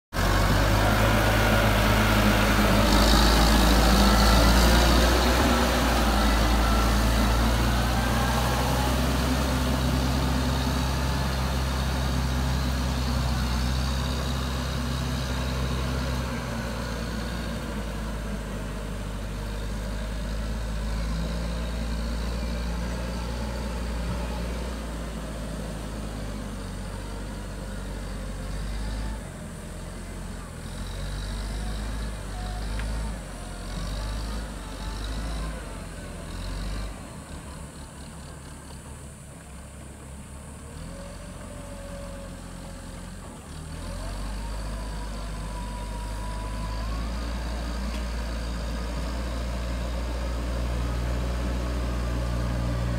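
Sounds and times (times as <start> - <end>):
diesel engine running under load: 0.1 - 52.9.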